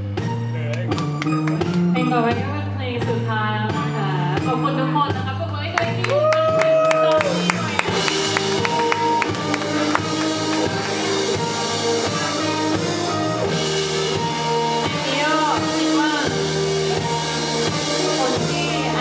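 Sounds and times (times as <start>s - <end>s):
electronic pop music: 0.6s - 19.0s.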